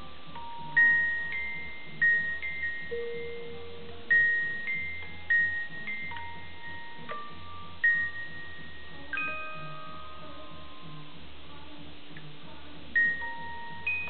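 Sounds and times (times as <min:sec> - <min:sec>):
music box tinkling tune: 0:00.0 - 0:11.2, 0:13.0 - 0:14.0.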